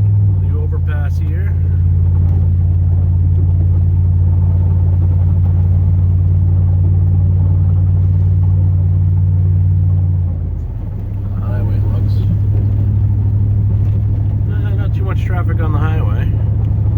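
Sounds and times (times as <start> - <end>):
truck engine droning: 0.0 - 16.9.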